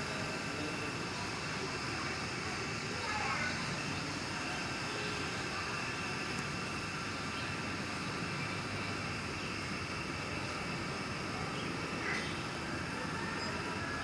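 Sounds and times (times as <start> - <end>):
constant high whine: 0.0 - 14.0.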